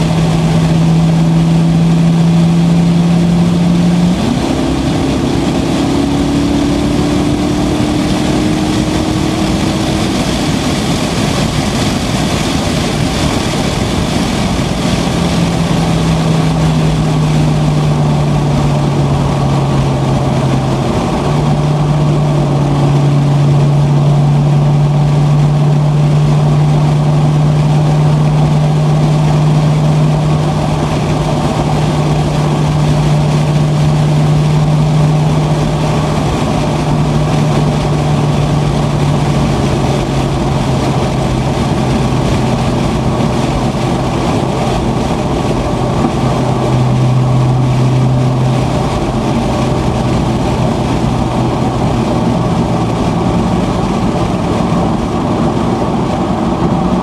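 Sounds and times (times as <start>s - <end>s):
car engine drone inside cabin: 0.0s - 57.0s
road noise: 0.0s - 57.0s.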